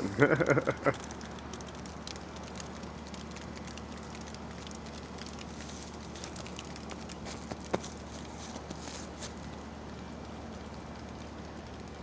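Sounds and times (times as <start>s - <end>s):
low hum: 0.0s - 12.0s
faint ticks and patters: 0.5s - 12.0s.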